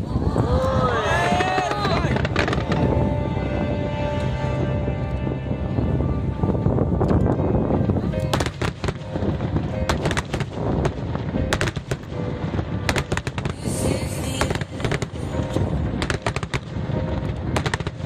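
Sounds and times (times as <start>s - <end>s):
fireworks bangs and crackles: 0.0s - 3.8s, 6.7s - 18.0s
continuous low rumble: 0.0s - 18.0s.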